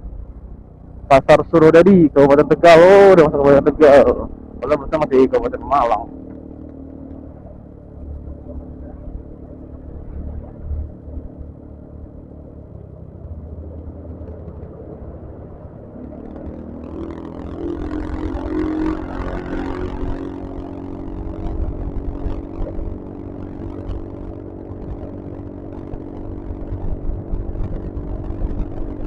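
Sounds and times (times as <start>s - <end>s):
road and wind noise: 0.0s - 29.0s
scooter engine running: 0.0s - 29.0s.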